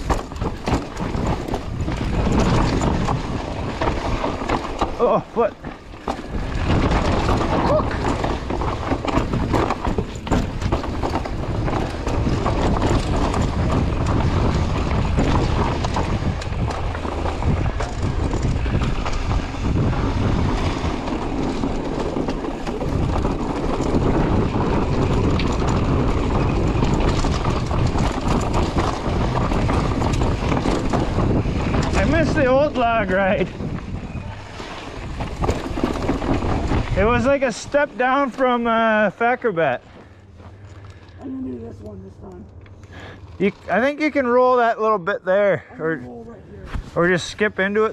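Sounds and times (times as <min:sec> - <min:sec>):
bike tyres rumbling on dirt: 0:00.0 - 0:41.2, 0:42.8 - 0:46.0, 0:46.6 - 0:47.9
bike rattling and knocking: 0:00.0 - 0:45.7.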